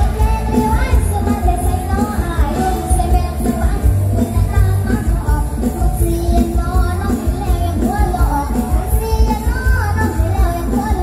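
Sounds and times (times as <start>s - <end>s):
live band music over loudspeakers: 0.0s - 11.0s
person singing: 0.0s - 11.0s.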